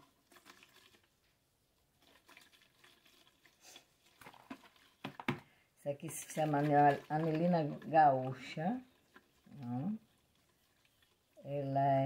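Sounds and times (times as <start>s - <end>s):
faint liquid swishing: 0.0s - 12.0s.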